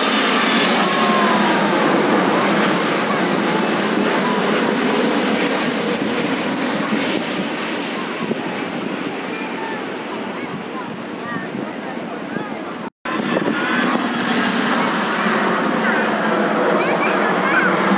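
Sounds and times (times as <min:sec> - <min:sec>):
airplane passing low overhead: 0:00.0 - 0:17.9.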